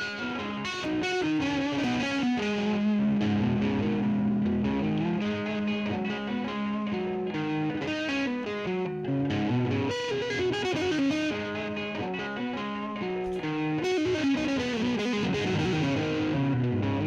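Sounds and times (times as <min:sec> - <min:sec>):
distorted electric guitar riff: 0:00.0 - 0:17.0.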